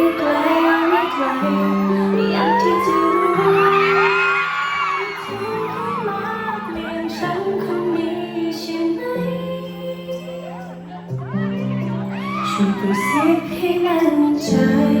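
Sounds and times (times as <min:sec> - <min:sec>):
fans screaming and whooping: 0:00.0 - 0:15.0
slow pop ballad music: 0:00.0 - 0:15.0.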